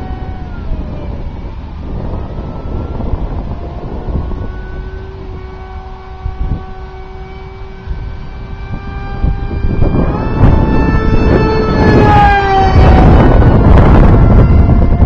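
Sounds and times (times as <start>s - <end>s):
model plane propeller whine: 0.0s - 15.0s
wind noise on microphone: 0.0s - 15.0s.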